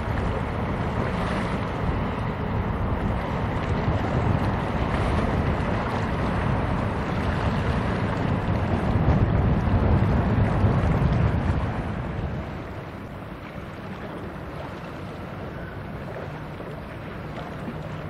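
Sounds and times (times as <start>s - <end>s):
cargo ship rumble: 0.0s - 18.0s
water: 0.0s - 18.0s
wind buffeting microphone: 0.0s - 18.0s.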